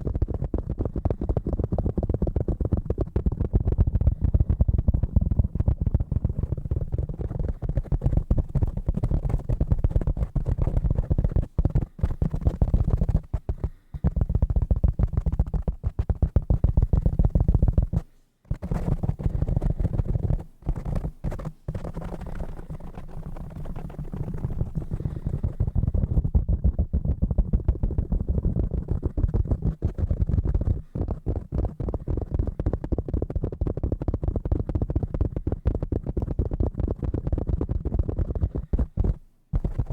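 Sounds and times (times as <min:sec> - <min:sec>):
fingertip tapping on objects: 0:00.0 - 0:39.9.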